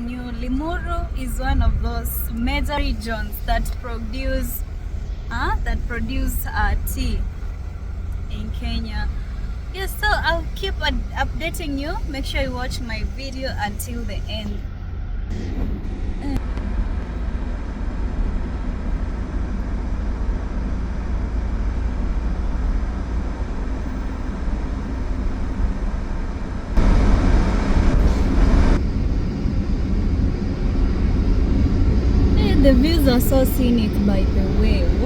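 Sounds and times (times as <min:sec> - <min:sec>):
vehicle road and engine rumble: 0:00.0 - 0:35.0.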